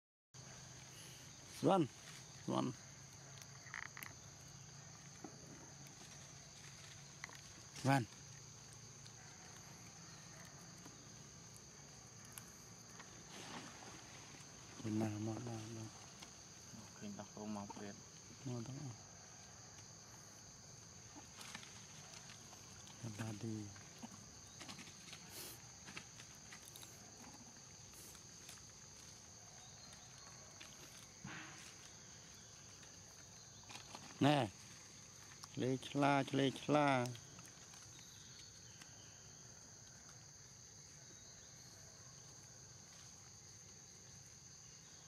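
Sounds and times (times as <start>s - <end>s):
high insect drone: 0.4s - 45.0s.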